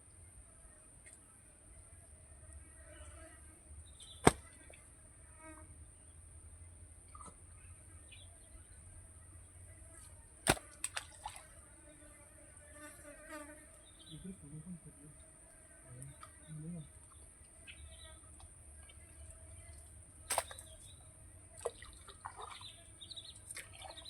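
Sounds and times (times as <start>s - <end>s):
insects droning: 1.7s - 23.4s.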